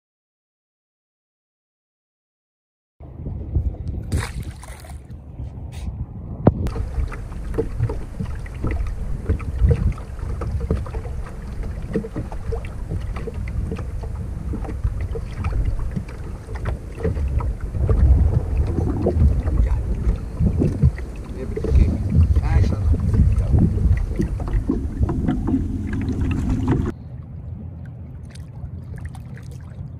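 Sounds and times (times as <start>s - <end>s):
wind buffeting microphone: 3.0s - 27.8s
water lapping against boat hull: 3.6s - 5.2s, 6.5s - 29.9s.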